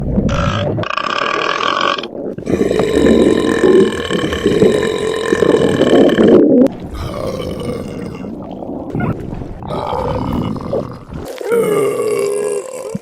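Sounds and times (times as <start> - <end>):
loud burps: 0.3 - 8.3, 9.7 - 13.0.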